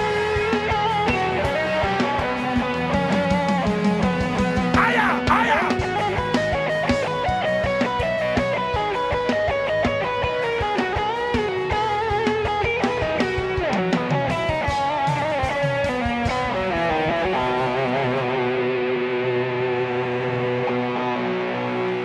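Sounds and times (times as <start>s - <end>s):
drums: 0.0s - 22.0s
lead electric guitar: 0.0s - 22.0s.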